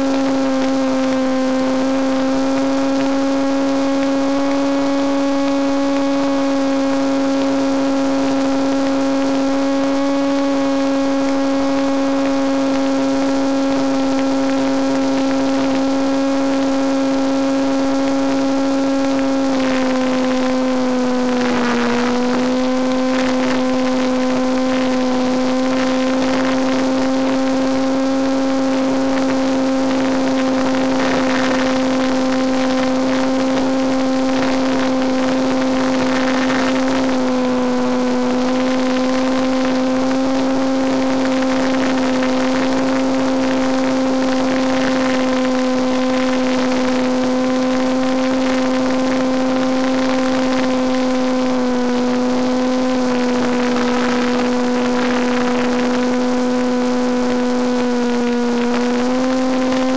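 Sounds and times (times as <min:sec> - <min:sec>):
model plane motor droning: 0:00.0 - 0:59.9.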